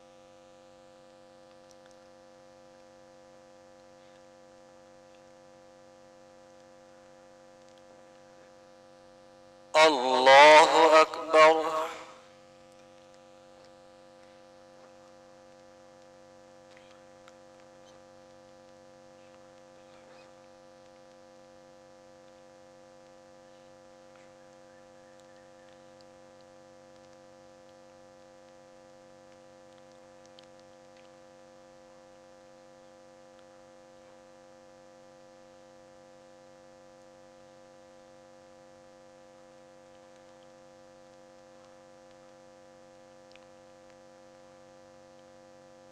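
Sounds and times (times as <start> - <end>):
faint ticks and rustles: 0.0 - 9.6, 12.3 - 45.9
faint electrical hum: 0.0 - 45.9.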